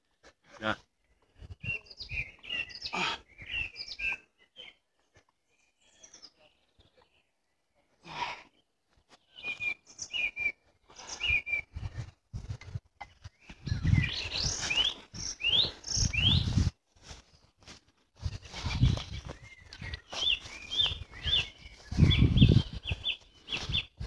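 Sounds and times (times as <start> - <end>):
small birds chirping: 0.9 - 24.0.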